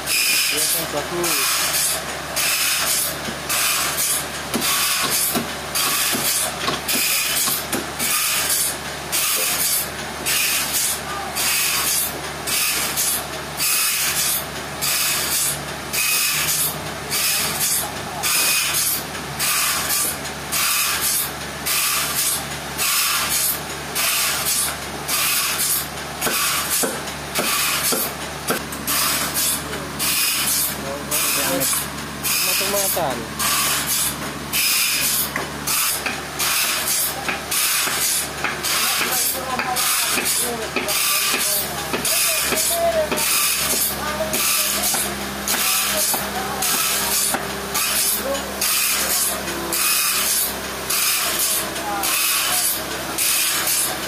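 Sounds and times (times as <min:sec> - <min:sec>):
low machinery hum: 0:00.0 - 0:54.0
sawmill machine hiss: 0:00.0 - 0:54.0.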